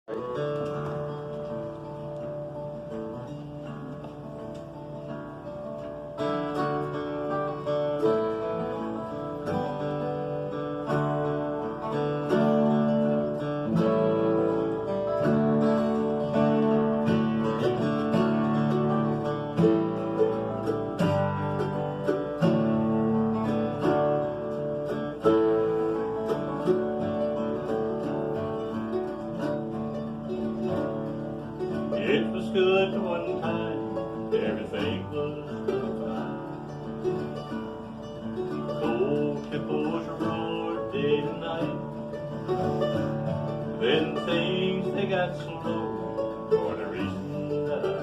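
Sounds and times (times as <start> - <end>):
acoustic guitar: 0.0 - 48.0
bluegrass band playing: 0.0 - 48.0.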